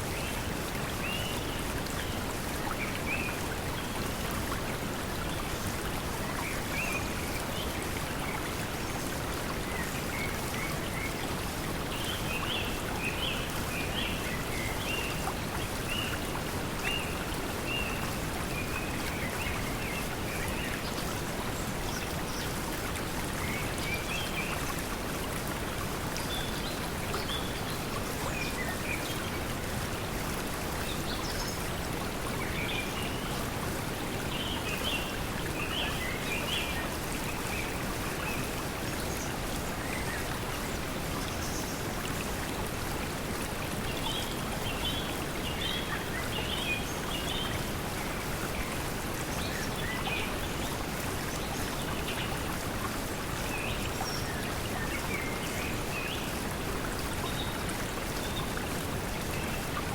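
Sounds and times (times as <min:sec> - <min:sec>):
flowing stream water: 0:00.0 - 0:59.9.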